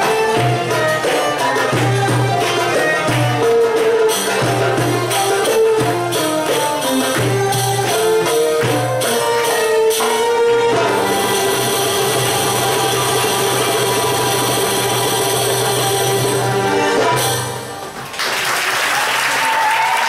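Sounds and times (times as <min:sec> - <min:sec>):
hand percussion beat: 0:00.0 - 0:17.7.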